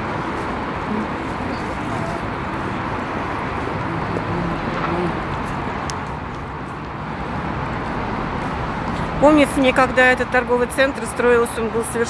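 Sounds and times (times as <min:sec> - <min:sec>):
distant traffic: 0:00.0 - 0:12.0
faint voices of passers-by: 0:00.0 - 0:12.0.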